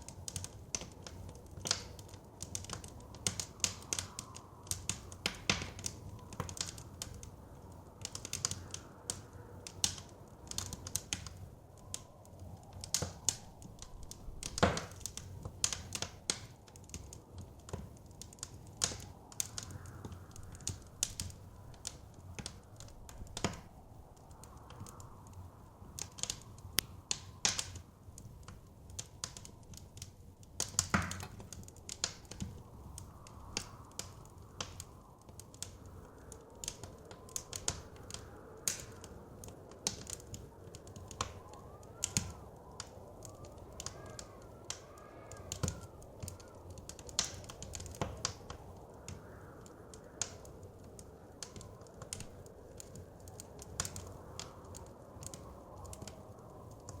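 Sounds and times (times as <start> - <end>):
blizzard wind rumble: 0.0 - 57.0
fire pops and snaps: 0.0 - 57.0
wood fire crackling: 0.0 - 57.0.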